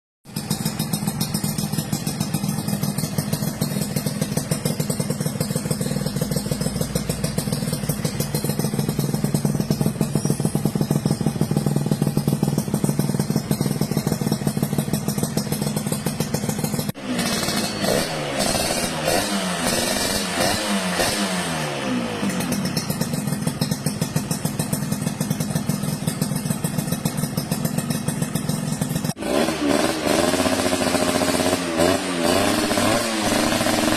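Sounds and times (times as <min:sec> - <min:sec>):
motorcycle engine idling and revving: 0:00.2 - 0:33.9.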